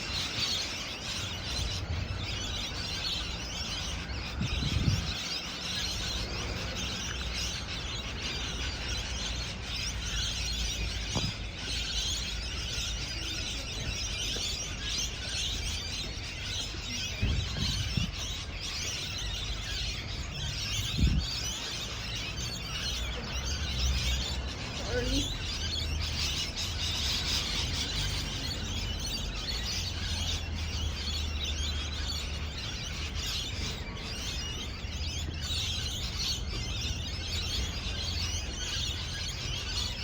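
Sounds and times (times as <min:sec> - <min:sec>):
parrots chirping and chattering: 0:00.0 - 0:40.0.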